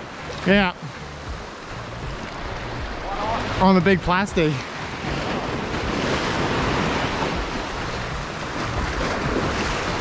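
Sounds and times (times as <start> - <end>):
ocean surf washing ashore: 0.0 - 10.0.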